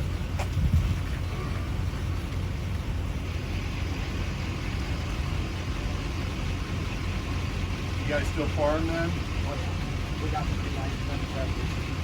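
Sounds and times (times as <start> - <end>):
vehicle engine rumble with hiss: 0.0 - 12.0.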